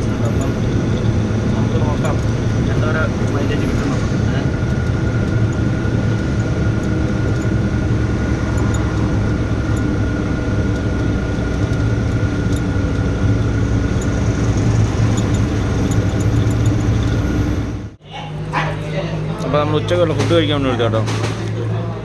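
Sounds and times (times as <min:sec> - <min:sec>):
road noise: 0:00.0 - 0:22.0
truck diesel engine hum: 0:00.0 - 0:22.0.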